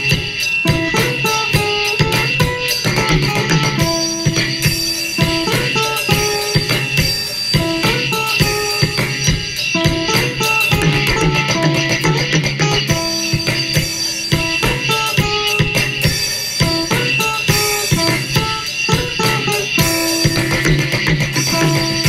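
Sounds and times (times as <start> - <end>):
music with drums and plucked guitar: 0.0 - 22.0.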